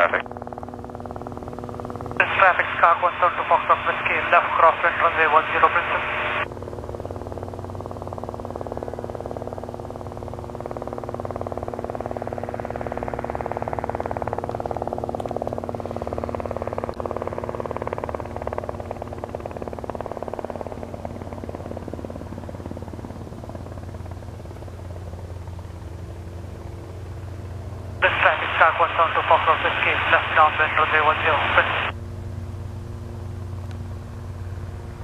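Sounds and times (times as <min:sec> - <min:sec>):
low engine drone: 0:00.0 - 0:35.0
propeller plane taking off: 0:00.0 - 0:35.0.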